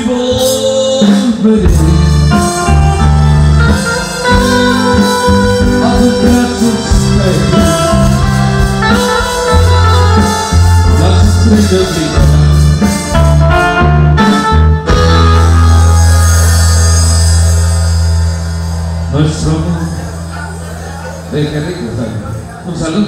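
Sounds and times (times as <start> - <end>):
loud music with bass and guitar: 0.0 - 23.0.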